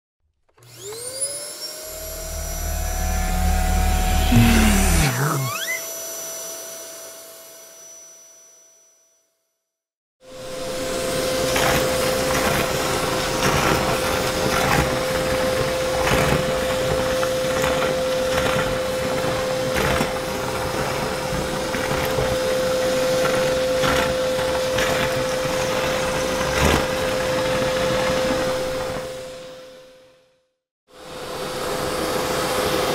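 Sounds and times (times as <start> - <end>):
vacuum cleaner whine: 0.6 - 8.8, 10.3 - 30.0, 31.0 - 32.9.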